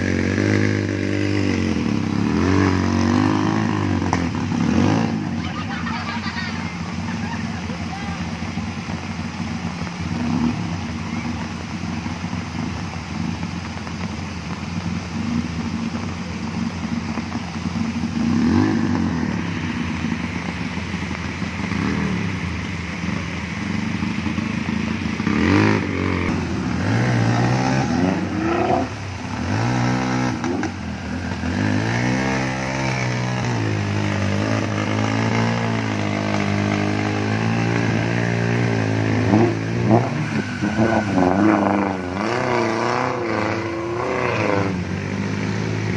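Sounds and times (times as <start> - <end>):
car engine revving: 0.0 - 45.9
rushing river water: 0.0 - 45.9.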